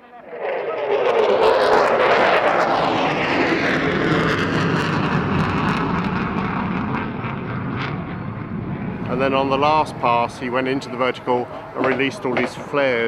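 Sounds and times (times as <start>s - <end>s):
fighter jet roaring past: 0.0s - 13.0s.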